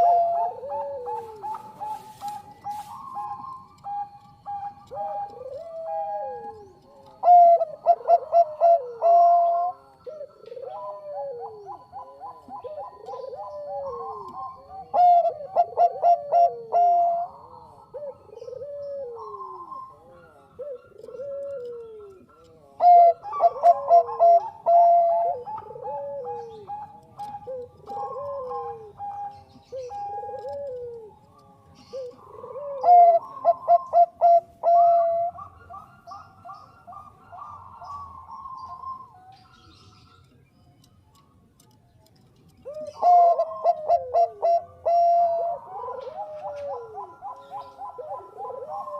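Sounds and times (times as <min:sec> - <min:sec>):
dove cooing: 0:00.0 - 0:40.2, 0:42.5 - 0:48.9.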